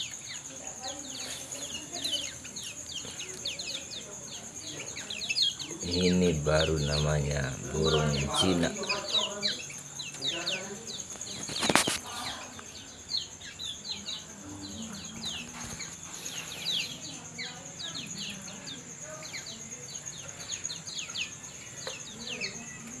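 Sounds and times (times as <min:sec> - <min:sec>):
high bird trill: 0:00.0 - 0:23.0
songbird chirping: 0:00.0 - 0:23.0.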